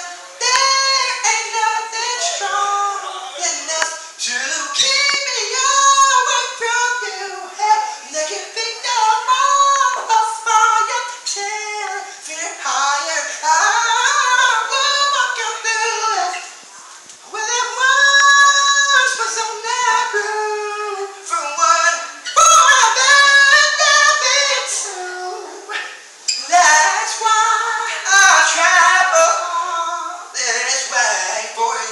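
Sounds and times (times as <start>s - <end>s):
person singing unaccompanied: 0.0s - 31.9s.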